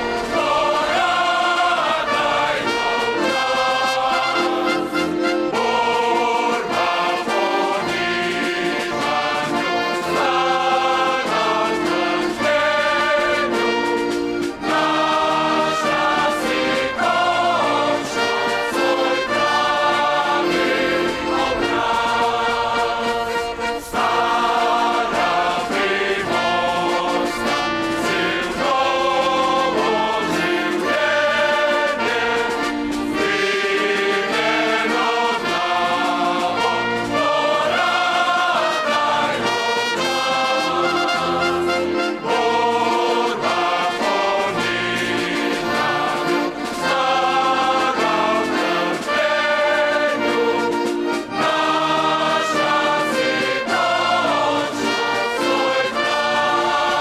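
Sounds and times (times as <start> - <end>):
choir singing: 0.0 - 57.0
orchestra with brass: 0.0 - 57.0.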